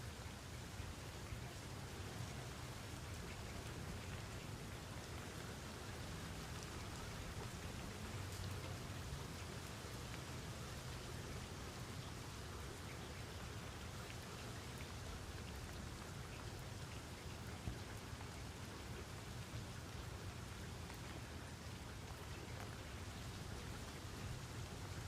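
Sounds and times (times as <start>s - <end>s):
steady rain: 0.0s - 25.0s
raindrops ticking: 0.3s - 25.0s.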